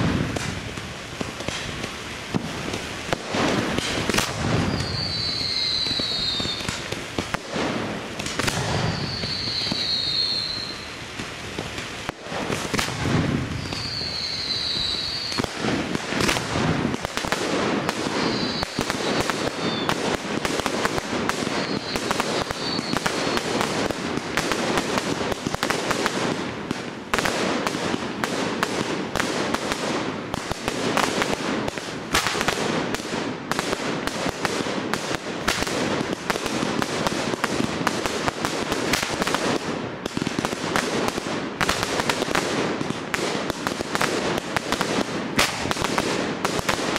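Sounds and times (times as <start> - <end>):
fireworks bangs: 0.0 - 46.9
high firework whistles: 0.0 - 46.9.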